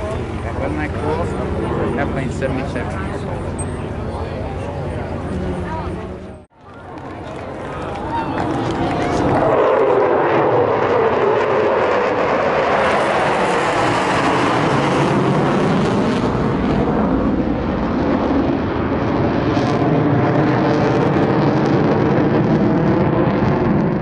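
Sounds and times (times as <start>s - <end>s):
jet engine rushing overhead: 0.0s - 24.0s.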